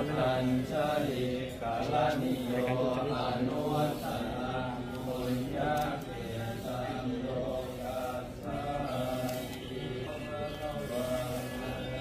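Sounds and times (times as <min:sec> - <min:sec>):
monks chanting in unison: 0:00.0 - 0:12.0.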